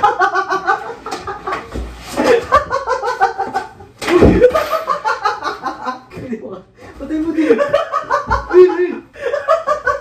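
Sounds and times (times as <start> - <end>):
people giggling and laughing: 0.0 - 6.7, 7.3 - 10.0.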